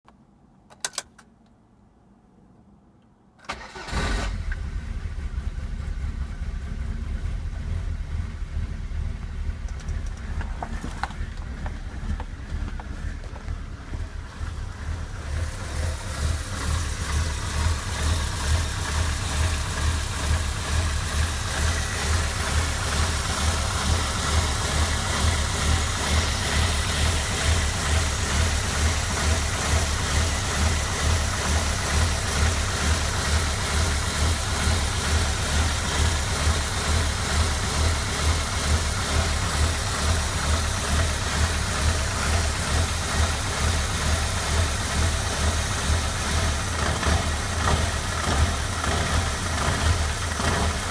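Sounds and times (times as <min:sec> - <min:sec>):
car engine idling roughly: 0:05.1 - 0:50.9.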